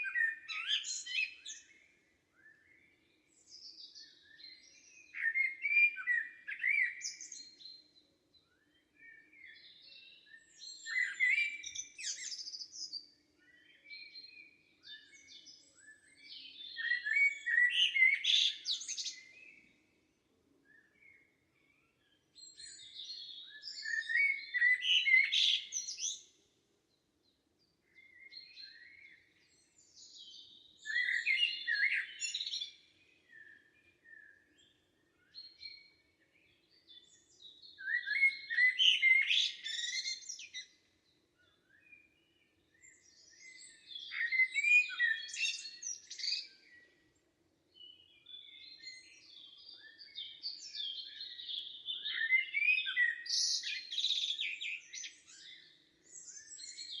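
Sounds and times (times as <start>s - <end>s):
songbirds twittering: 0.0s - 57.0s.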